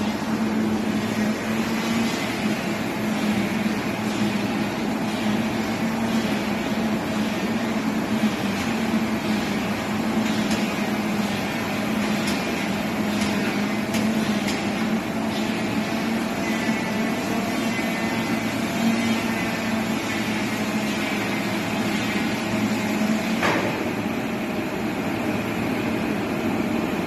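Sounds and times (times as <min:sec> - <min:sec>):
heavy machinery humming: 0:00.0 - 0:27.0.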